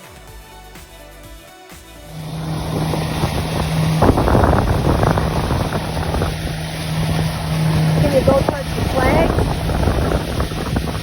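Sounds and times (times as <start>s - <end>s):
music: 0.0s - 10.9s
motorboat engine running: 2.0s - 11.0s
wind buffeting microphone: 2.2s - 11.0s.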